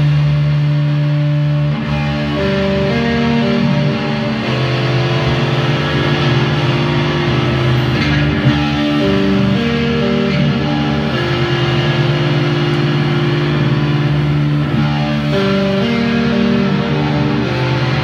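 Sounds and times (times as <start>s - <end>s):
black metal band playing: 0.0s - 18.0s.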